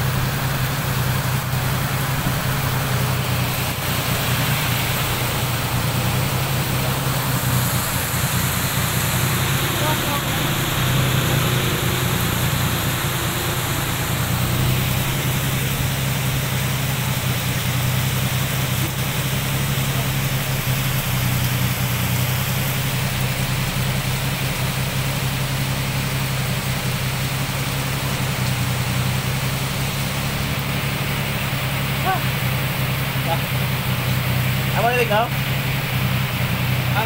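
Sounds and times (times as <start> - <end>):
heavy rain: 0.0 - 37.0.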